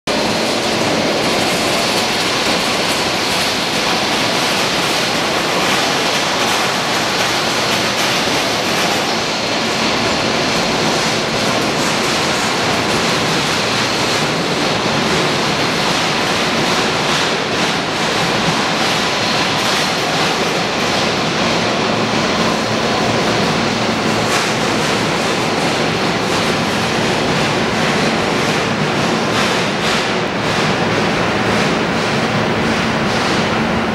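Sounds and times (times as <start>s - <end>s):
jet engines rushing and whining: 0.1s - 33.9s.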